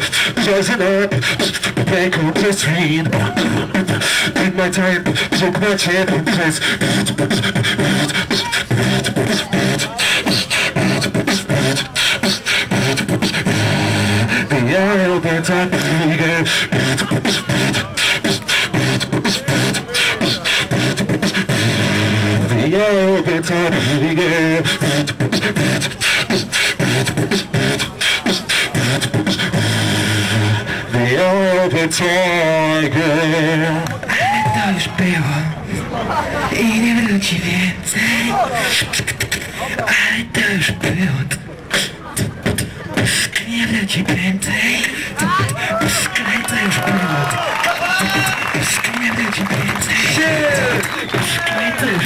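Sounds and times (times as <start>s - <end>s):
man beatboxing: 0.0s - 52.0s.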